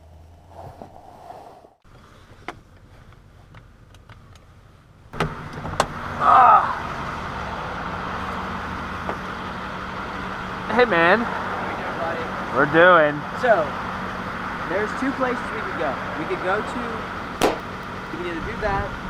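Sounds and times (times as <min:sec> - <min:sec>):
outside traffic noise: 0:00.0 - 0:19.0
car engine running: 0:01.9 - 0:19.0.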